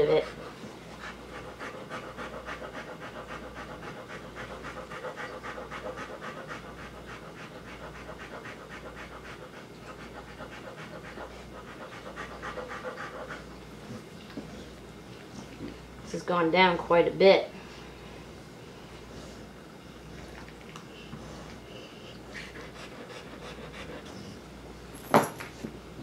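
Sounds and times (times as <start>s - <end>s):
dog panting: 0.0s - 15.6s, 19.0s - 24.5s.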